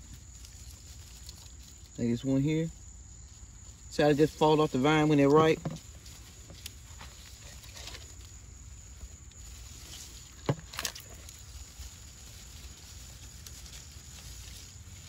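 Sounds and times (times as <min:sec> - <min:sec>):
leaves rustling: 0:00.0 - 0:15.0.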